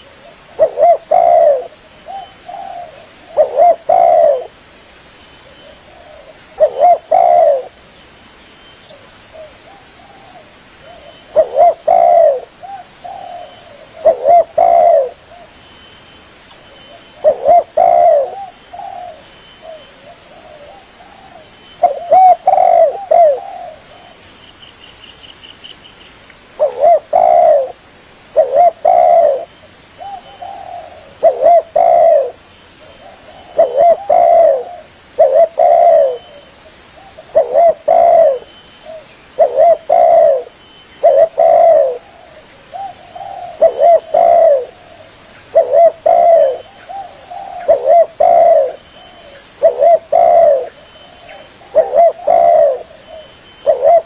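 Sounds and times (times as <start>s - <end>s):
dove cooing: 0.0s - 4.6s, 5.4s - 7.8s, 8.9s - 15.6s, 16.9s - 24.3s, 26.6s - 54.0s.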